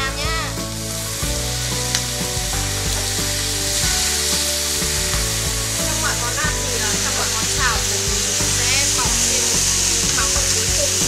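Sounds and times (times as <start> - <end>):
stir-fry sizzling in a wok: 0.0 - 11.0.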